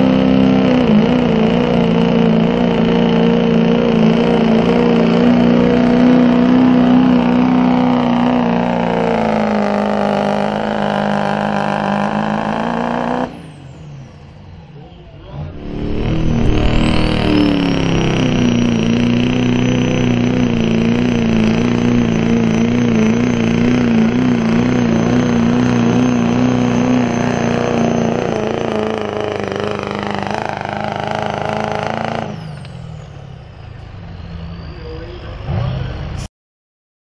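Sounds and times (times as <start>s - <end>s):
diesel truck engine at high revs: 0.0s - 34.7s
turbo whine: 0.0s - 35.3s.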